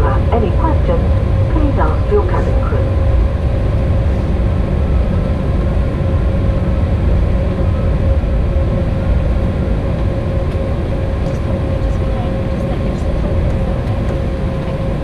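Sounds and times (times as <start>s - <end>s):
low rumble in airliner cabin: 0.0s - 15.0s
mid-pitched hum: 0.0s - 15.0s.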